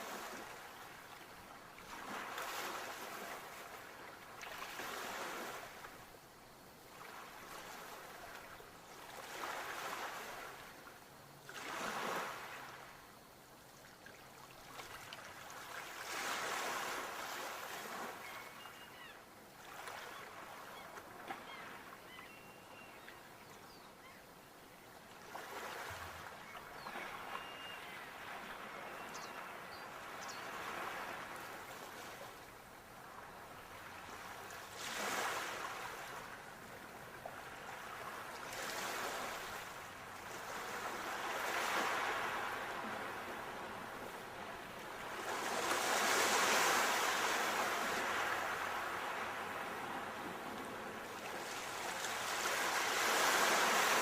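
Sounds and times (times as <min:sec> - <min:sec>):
sea waves breaking on shore: 0:00.0 - 0:06.0, 0:06.9 - 0:12.9, 0:14.3 - 0:22.2, 0:25.2 - 0:54.0.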